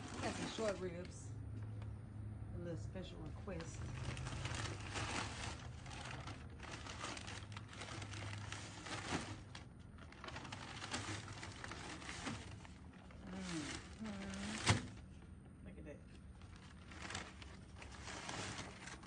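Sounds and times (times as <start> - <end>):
crinkling and rustling: 0.0 - 2.0, 3.2 - 19.0.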